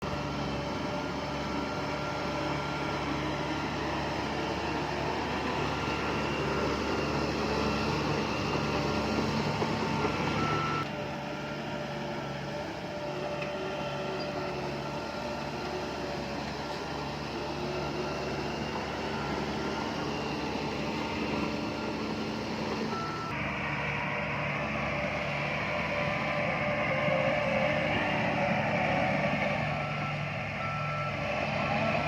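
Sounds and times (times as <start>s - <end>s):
heavy machinery diesel engines: 0.0s - 32.0s.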